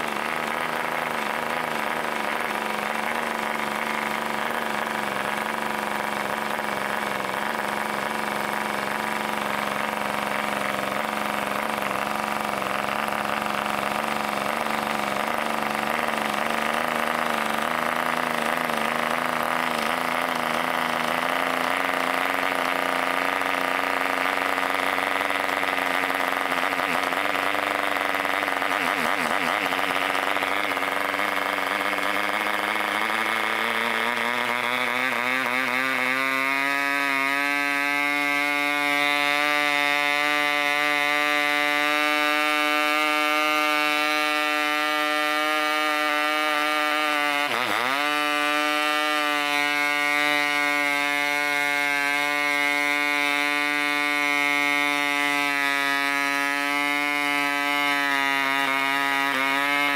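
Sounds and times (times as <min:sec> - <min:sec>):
model engine running high-pitched: 0:00.0 - 0:59.9.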